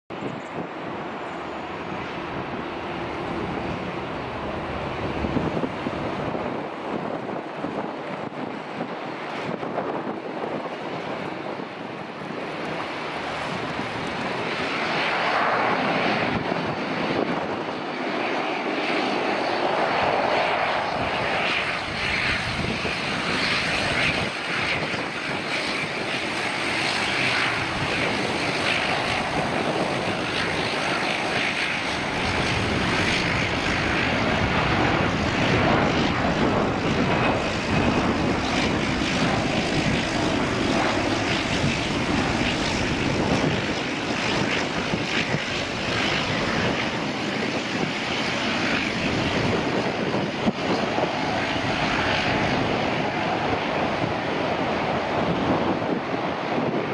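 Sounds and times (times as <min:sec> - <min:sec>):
jet engine roar: 0:00.1 - 0:56.9.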